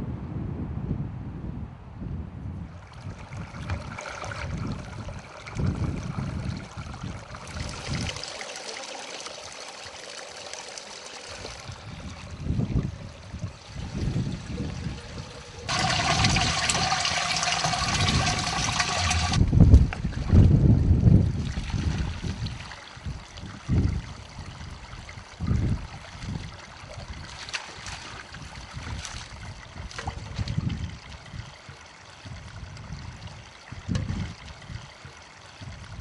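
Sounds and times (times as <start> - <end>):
wind on microphone: 0.0 - 8.2, 11.3 - 36.0
water pouring into metal can: 2.8 - 32.6
stream running over stones: 2.8 - 36.0.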